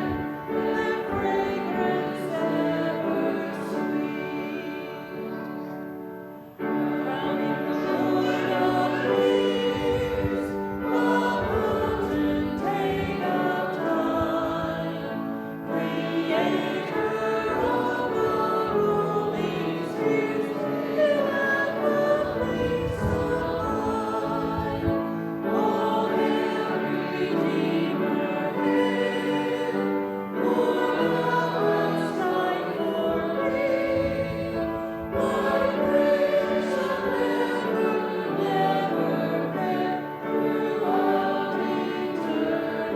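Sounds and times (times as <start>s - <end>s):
congregation singing a hymn: 0.0s - 42.9s.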